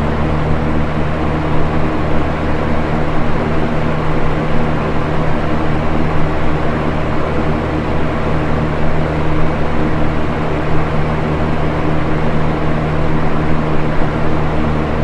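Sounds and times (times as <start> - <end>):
box fan running: 0.0 - 15.0.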